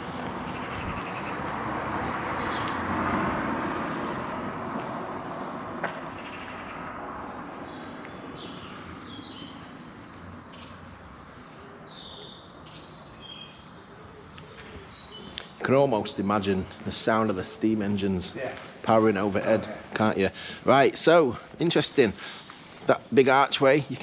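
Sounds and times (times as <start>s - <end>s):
birds chirping: 0.0s - 24.0s
rushing outdoor noise: 0.0s - 24.0s.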